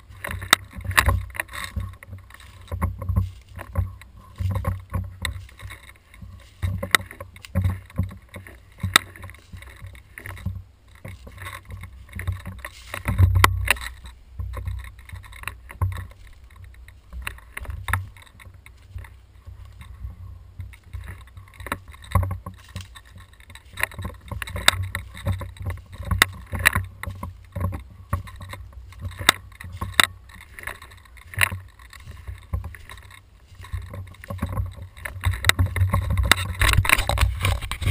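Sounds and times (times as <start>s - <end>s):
camera handling rumble and knocks: 0.0s - 37.9s
footsteps on leaf litter and twigs: 0.0s - 37.9s.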